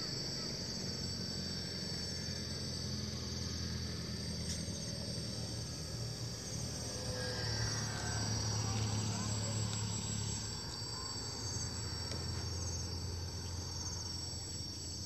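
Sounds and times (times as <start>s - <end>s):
insects trilling: 0.0s - 15.0s
model plane motor drone: 0.0s - 15.0s.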